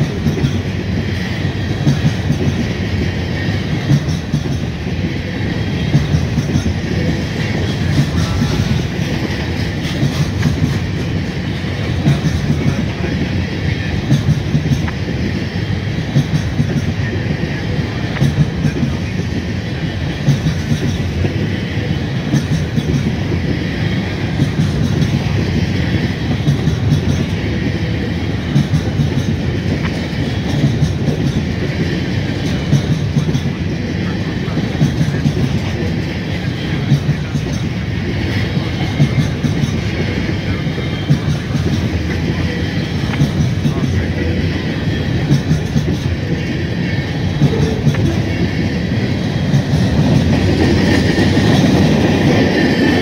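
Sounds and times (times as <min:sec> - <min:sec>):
clickety-clack over rail joints: 0:00.0 - 0:53.0
steel wheels rumbling on rail: 0:00.0 - 0:53.0.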